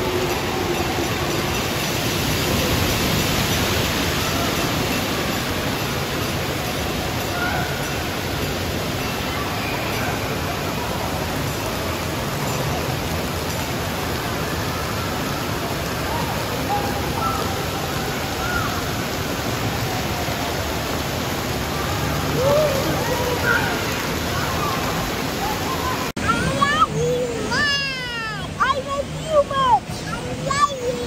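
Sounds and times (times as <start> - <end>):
water rushing and splashing: 0.0 - 31.0.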